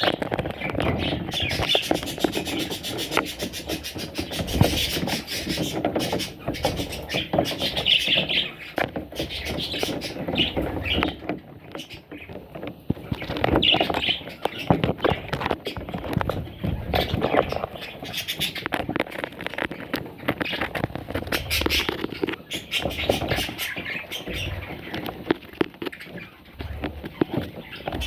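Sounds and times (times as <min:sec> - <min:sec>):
bird chicks squeaking and chirping: 0:00.0 - 0:28.0
scratching and rustling clicks: 0:00.0 - 0:28.0.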